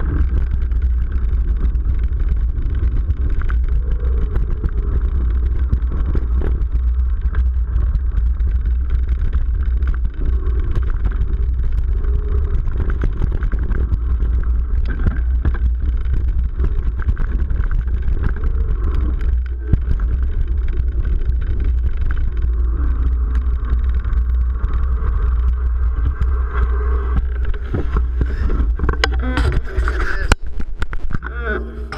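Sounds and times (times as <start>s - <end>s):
bike rattling and knocking: 0.0s - 31.2s
wind rumble on microphone: 0.0s - 31.9s.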